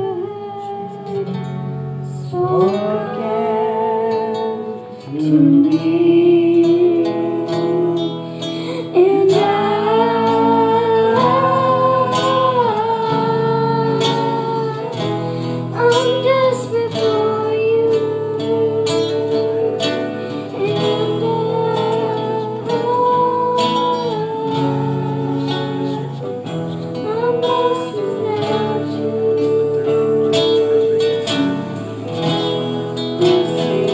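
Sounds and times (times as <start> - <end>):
person singing long notes: 0.0 - 33.9
strummed acoustic guitar: 0.0 - 33.9.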